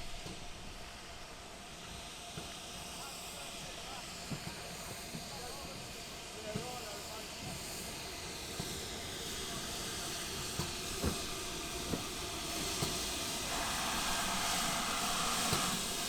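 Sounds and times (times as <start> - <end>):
steam train hissing: 0.0 - 16.0.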